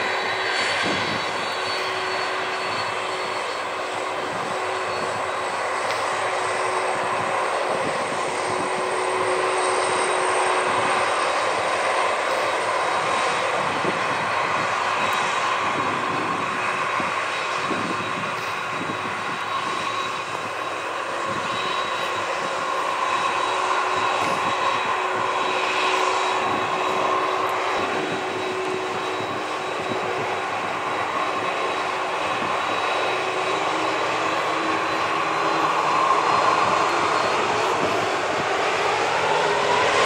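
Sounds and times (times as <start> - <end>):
jet engines idling with whine: 0.0 - 40.0.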